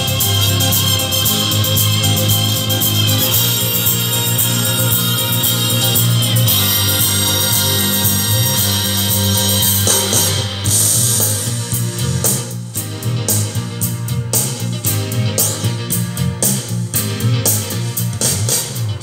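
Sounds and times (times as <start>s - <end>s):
loud music from speakers: 0.0s - 19.0s.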